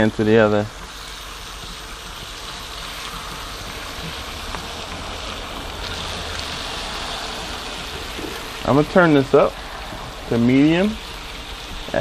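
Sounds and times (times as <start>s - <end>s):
bacon sizzling on a griddle: 0.0s - 12.0s.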